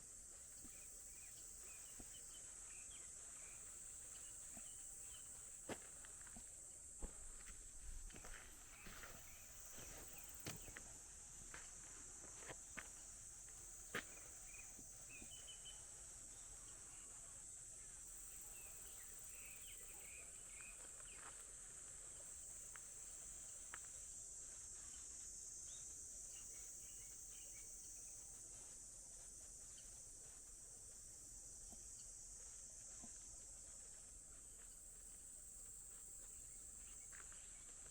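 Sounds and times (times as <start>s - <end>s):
faint chirps: 0.0s - 6.4s, 12.9s - 37.9s
high-pitched insect chorus: 0.1s - 37.9s.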